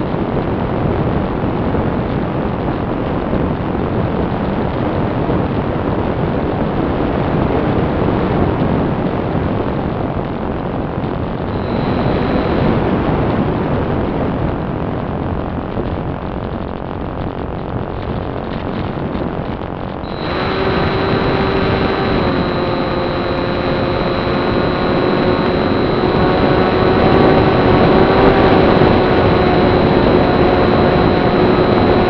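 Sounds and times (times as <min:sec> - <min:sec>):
rushing wind noise: 0:00.0 - 0:32.0.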